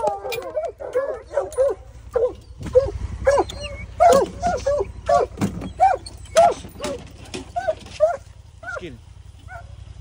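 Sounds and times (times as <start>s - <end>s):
hounds barking excitedly: 0.0s - 9.9s.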